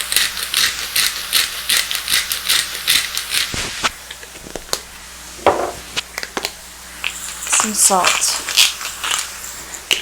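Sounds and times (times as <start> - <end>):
pepper grinder rasping: 0.0 - 4.3, 6.0 - 10.0.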